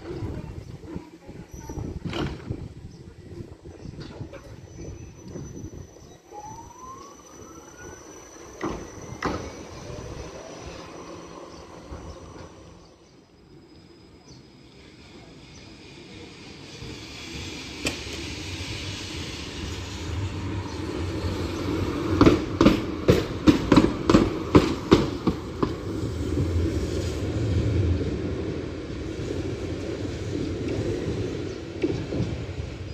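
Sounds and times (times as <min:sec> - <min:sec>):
tram passing: 0:00.0 - 0:32.9.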